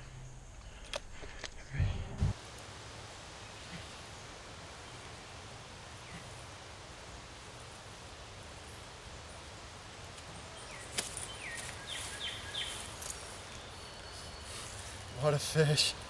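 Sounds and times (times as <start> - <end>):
outdoor background rush: 0.0 - 16.0.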